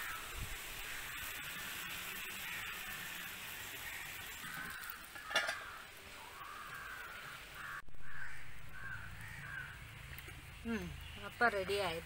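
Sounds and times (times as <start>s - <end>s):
crows cawing: 0.0s - 10.0s.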